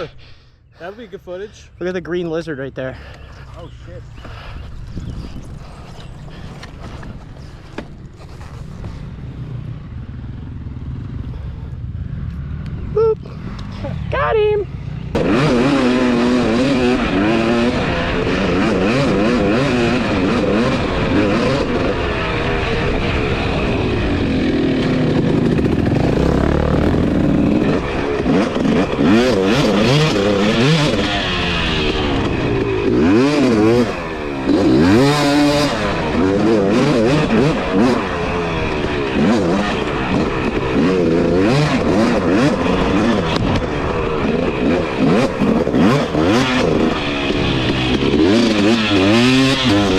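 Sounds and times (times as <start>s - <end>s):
dirt bike engine revving: 0.7s - 49.9s.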